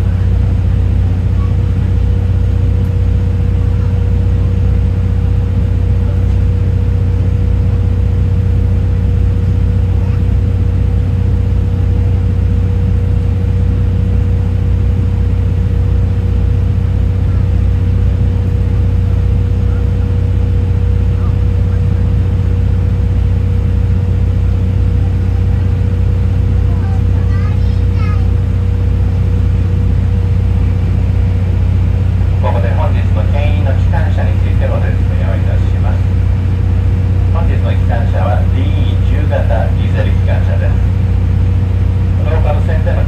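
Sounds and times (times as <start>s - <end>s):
low drone inside train coach: 0.0s - 43.0s
thin steady whine: 0.0s - 43.0s.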